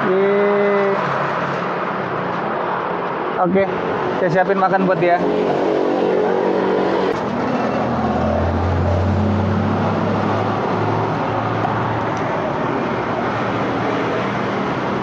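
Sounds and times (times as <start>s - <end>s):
road noise: 0.0s - 15.0s
vehicle engine humming: 1.2s - 15.0s.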